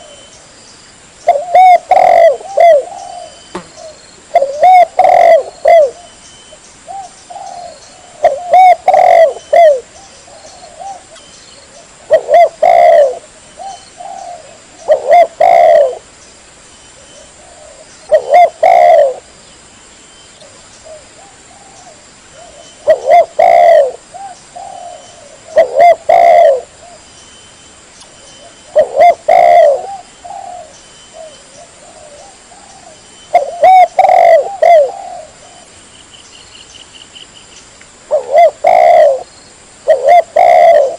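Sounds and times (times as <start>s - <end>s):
dove cooing: 1.2s - 6.2s, 6.9s - 16.1s, 17.0s - 19.3s, 20.4s - 27.1s, 28.4s - 35.7s, 38.1s - 40.9s.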